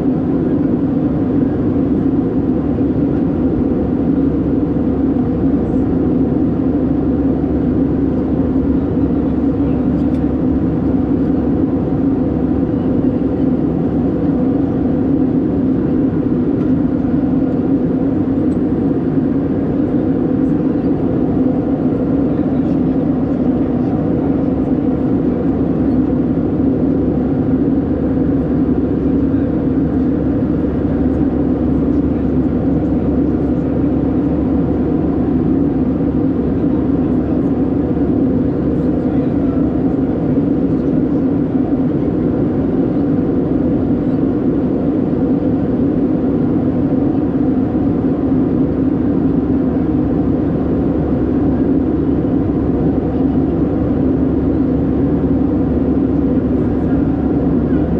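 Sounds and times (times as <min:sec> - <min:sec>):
airplane cabin engine drone: 0:00.0 - 0:57.9.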